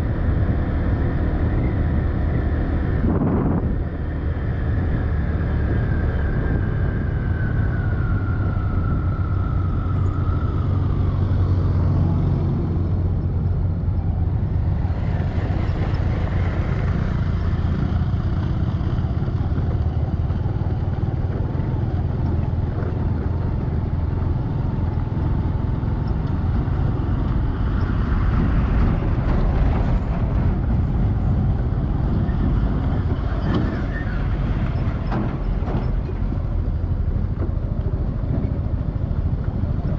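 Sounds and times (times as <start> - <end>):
vehicle engine drone: 0.0 - 39.9.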